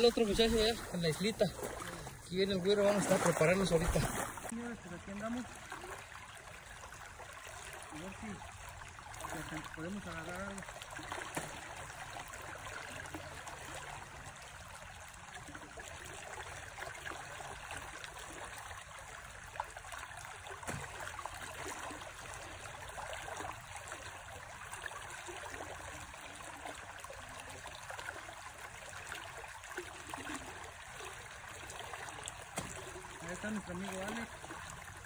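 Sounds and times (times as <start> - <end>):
river flowing: 0.0 - 35.0.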